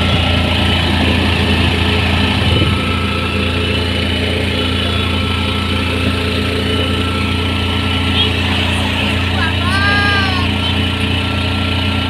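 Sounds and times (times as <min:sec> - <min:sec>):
auto-rickshaw engine running: 0:00.0 - 0:12.0.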